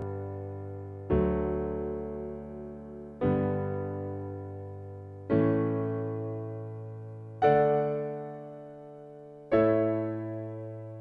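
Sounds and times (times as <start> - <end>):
slow electric piano chords: 0.0 - 11.0.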